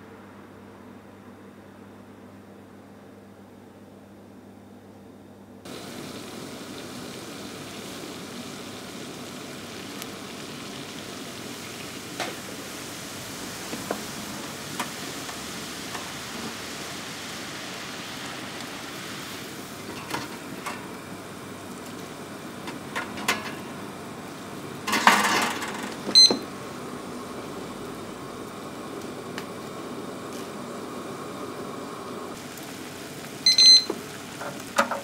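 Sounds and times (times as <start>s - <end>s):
water boiling in saucepan: 5.7s - 35.0s.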